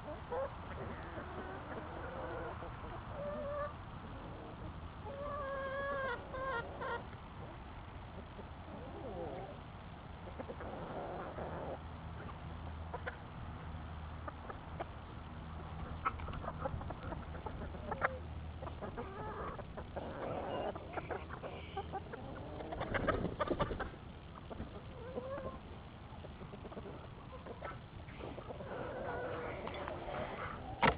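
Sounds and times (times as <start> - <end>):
hens clucking: 0.0 - 30.9.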